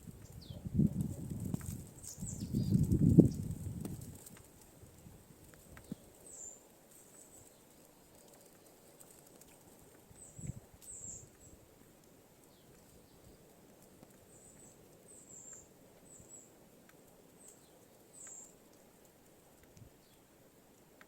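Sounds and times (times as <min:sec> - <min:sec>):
small birds chirping: 0:00.0 - 0:04.4, 0:05.6 - 0:20.3.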